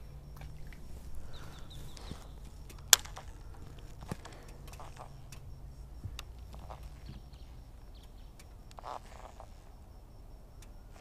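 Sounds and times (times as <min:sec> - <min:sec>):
bird chirps: 0:00.0 - 0:11.0
low steady rumble: 0:00.0 - 0:11.0.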